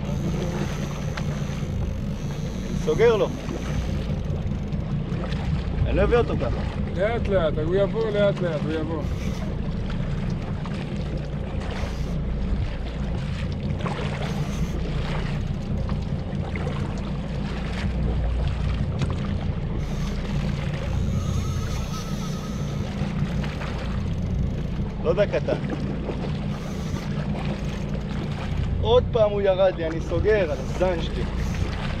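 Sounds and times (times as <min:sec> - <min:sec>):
boat engine idling: 0:00.0 - 0:32.0
water rushing round hull: 0:00.0 - 0:32.0.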